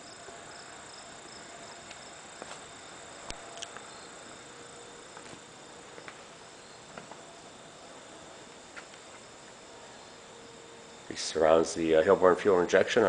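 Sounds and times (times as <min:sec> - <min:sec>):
faint high steady tone: 0:00.0 - 0:13.0
steady hiss: 0:00.0 - 0:13.0.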